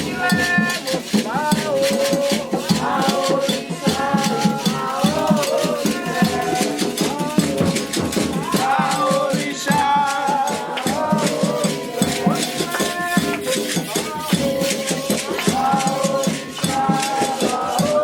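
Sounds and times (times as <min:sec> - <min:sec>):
rhythmic percussion beat: 0:00.0 - 0:18.0
shaken rattle: 0:00.0 - 0:18.0
voices singing a chant: 0:00.0 - 0:18.0.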